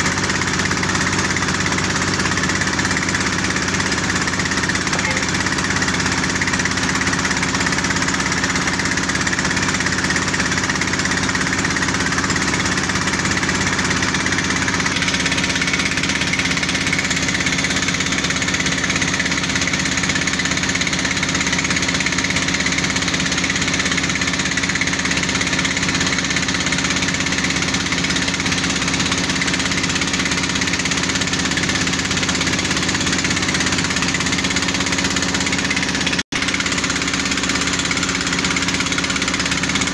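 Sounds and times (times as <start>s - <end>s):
drilling rig engines running: 0.0s - 39.9s.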